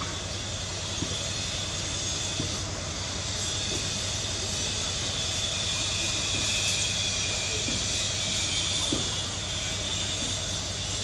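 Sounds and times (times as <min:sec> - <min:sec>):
outdoor background drone: 0:00.0 - 0:11.0.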